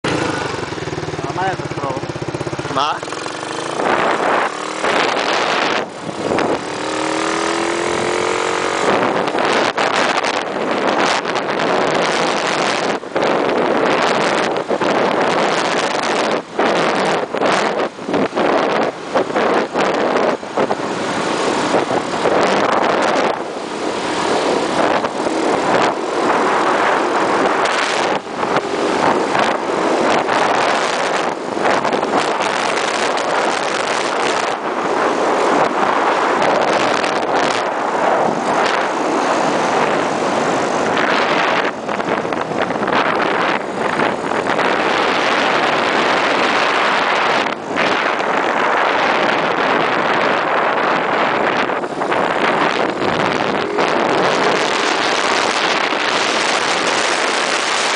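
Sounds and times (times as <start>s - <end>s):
scooter running: 0.0s - 57.9s
wind rushing over microphone: 0.0s - 57.9s.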